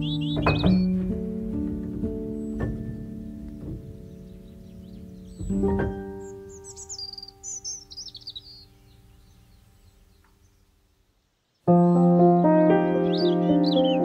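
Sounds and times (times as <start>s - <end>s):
bird chirping and trilling: 0.0s - 10.6s, 11.6s - 14.0s.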